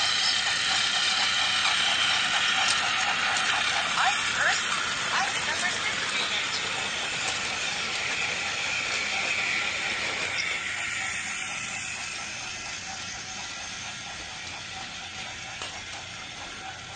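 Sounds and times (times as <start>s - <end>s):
small geared motor whirring: 0.0s - 16.9s.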